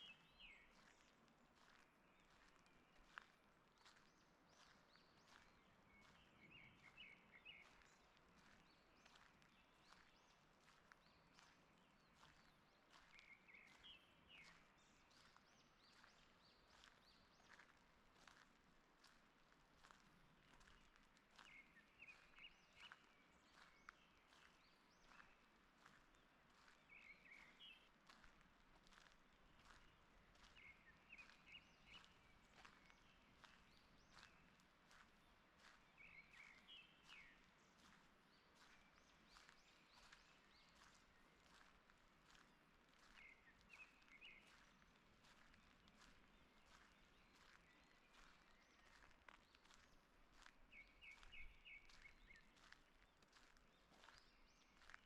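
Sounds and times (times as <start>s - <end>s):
faint songbirds chirping: 0.0s - 55.0s
footsteps on forest path: 0.0s - 55.0s.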